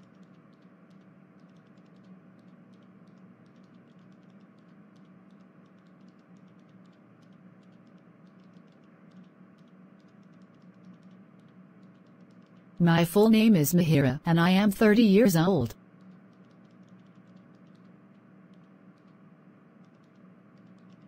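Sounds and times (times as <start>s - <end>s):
light irregular clicking: 0.0s - 12.8s, 16.0s - 19.2s, 19.8s - 21.0s
low steady hum: 0.0s - 21.0s.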